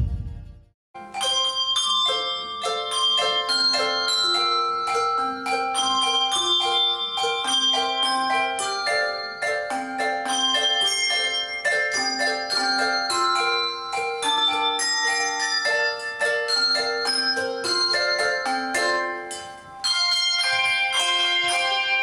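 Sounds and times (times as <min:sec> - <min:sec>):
bell-like instrumental melody: 0:01.0 - 0:22.0.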